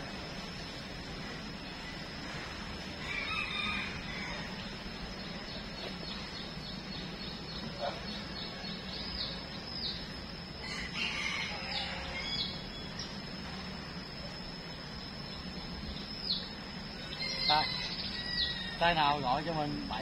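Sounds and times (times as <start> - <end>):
long bird calls: 0.0 - 20.0.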